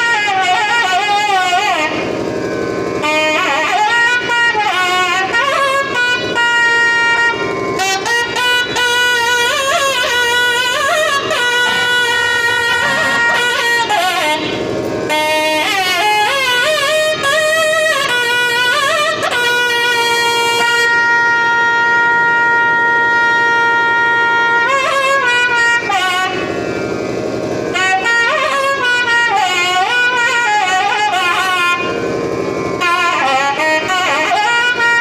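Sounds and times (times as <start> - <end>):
double-reed pipes playing: 0.0 - 35.0.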